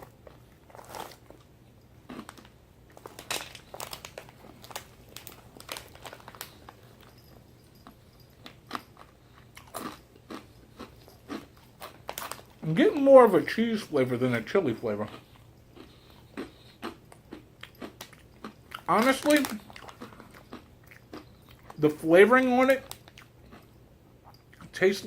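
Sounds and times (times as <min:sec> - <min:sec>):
person chewing crunchy corn: 0:00.0 - 0:12.9, 0:14.4 - 0:24.7.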